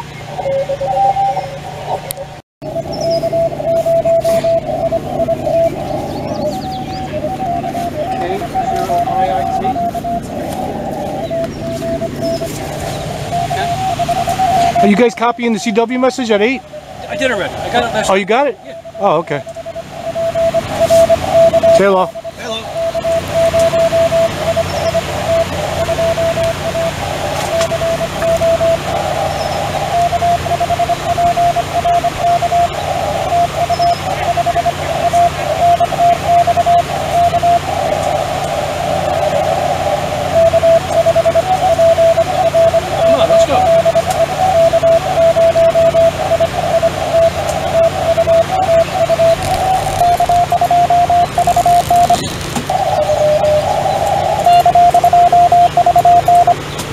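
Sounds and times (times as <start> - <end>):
morse code tone: 0.0 - 56.8
radio band hiss: 3.0 - 56.8.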